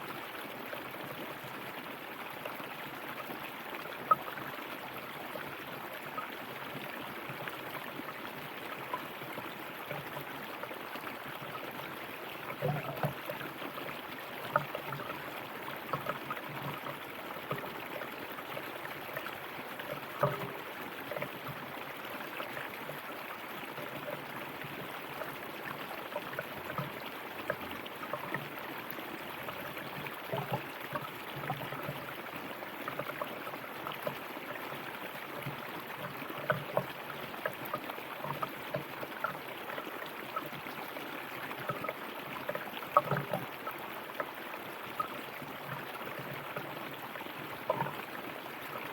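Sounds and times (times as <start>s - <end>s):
river water flowing over stones: 0.0s - 48.9s.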